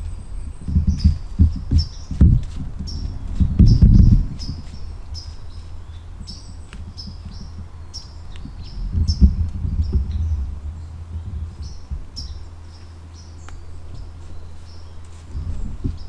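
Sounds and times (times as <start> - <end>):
low rumbling thumps: 0.0 - 16.0
songbird chip notes: 0.0 - 16.0.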